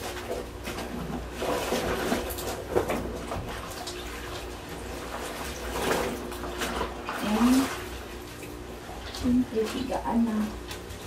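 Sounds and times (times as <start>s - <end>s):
clothes sloshing in soapy water: 0.0s - 11.0s.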